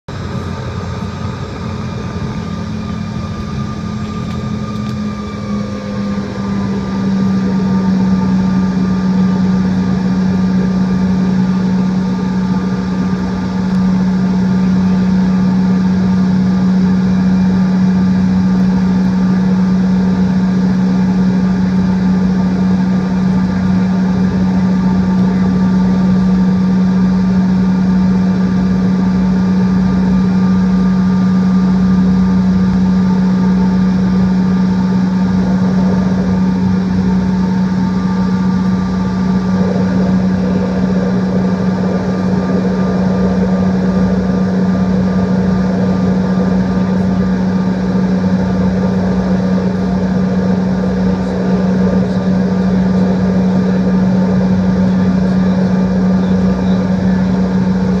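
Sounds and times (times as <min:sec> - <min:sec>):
jet engines droning: 0:00.1 - 0:58.0.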